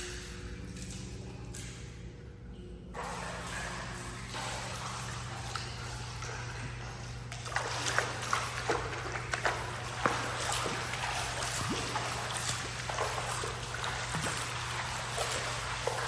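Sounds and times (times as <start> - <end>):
steady low hum: 0.0 - 16.0
water splashing in pool: 3.0 - 16.0.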